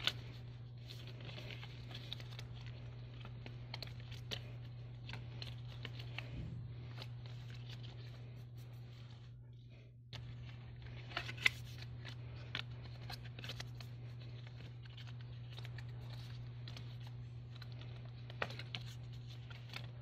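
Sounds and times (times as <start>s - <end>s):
paper rustling and crinkling: 0.0s - 20.0s
steady low hum: 0.0s - 20.0s.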